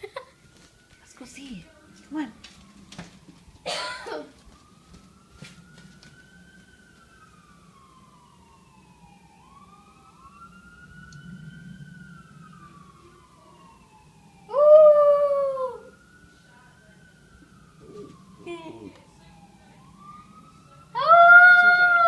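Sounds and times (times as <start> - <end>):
police siren wailing: 0.0 - 22.0.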